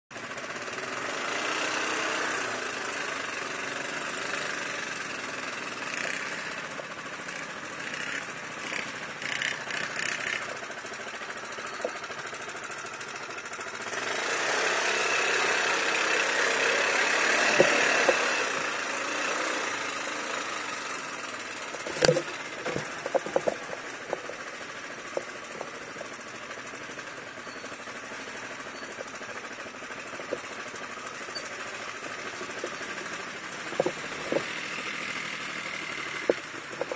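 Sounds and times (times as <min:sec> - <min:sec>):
atv engine running: 0:00.1 - 0:36.9
knocks and rattles over rough ground: 0:03.3 - 0:14.0, 0:14.9 - 0:36.9.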